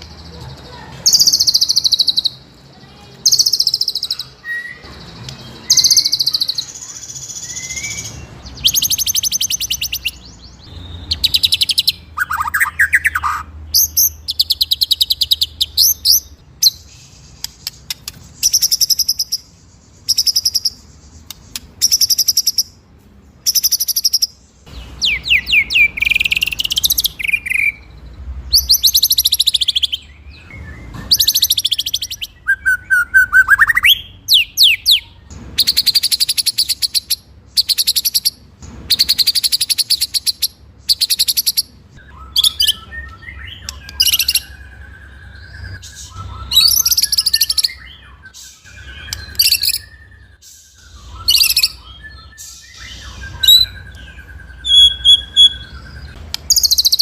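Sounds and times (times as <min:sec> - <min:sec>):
songbird singing trills: 0:00.0 - 0:57.0.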